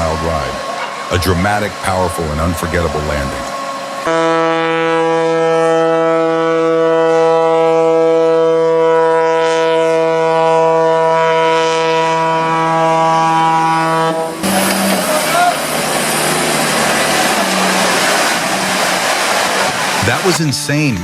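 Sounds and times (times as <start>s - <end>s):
ship's horn blast: 0.0s - 21.0s.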